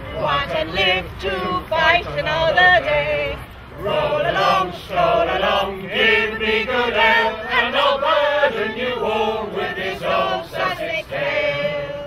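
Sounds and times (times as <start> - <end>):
mixed group singing: 0.0 - 12.0.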